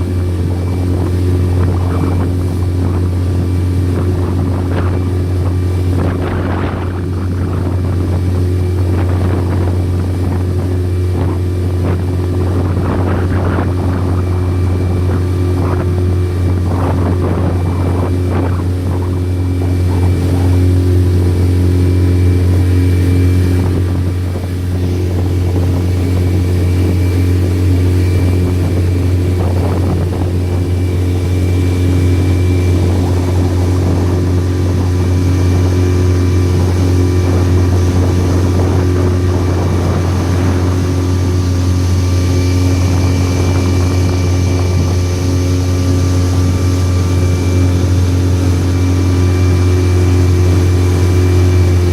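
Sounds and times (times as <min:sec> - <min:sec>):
motorboat engine drone: 0:00.0 - 0:51.9.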